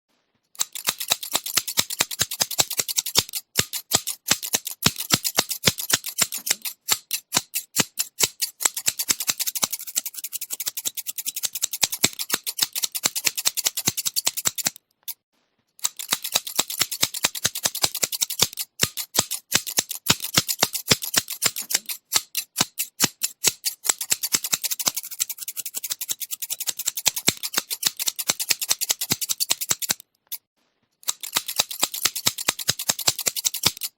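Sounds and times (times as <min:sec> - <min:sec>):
scissors snipping: 0:00.6 - 0:15.2, 0:15.8 - 0:33.9.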